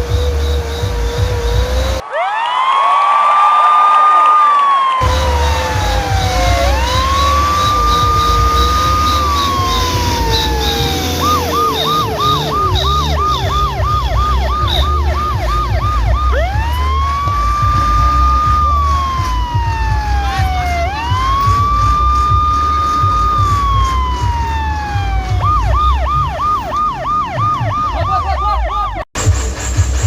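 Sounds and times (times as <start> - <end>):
electronic siren: 0.0 - 2.5, 4.6 - 29.1.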